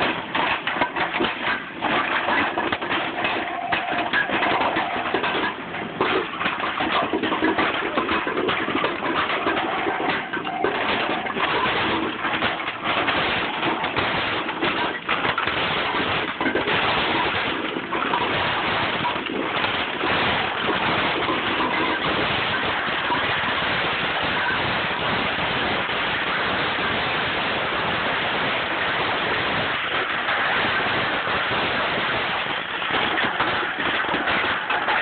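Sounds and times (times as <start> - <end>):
sharp plastic cracks: 0.0 - 24.6, 29.1 - 35.0
shredder crunching plastic: 0.0 - 35.0
shredder running noise: 0.0 - 35.0.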